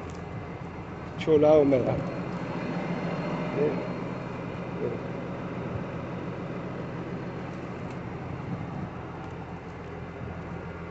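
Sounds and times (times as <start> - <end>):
tractor diesel engine under load: 0.0 - 10.9.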